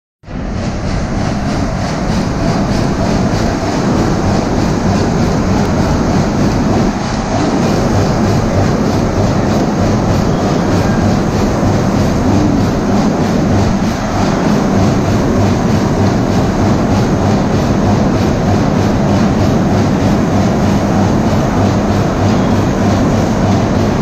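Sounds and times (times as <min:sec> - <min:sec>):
flywheel engine and sawmill machinery: 0:00.3 - 0:24.0.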